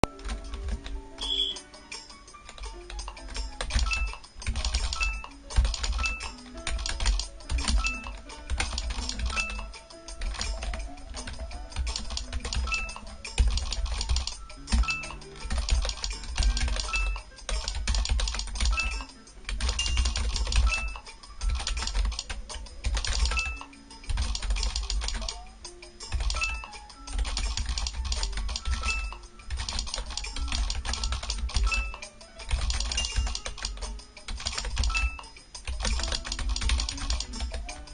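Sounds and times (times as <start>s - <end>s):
keyboard typing: 0.0s - 37.9s
quiet background music: 0.0s - 37.9s.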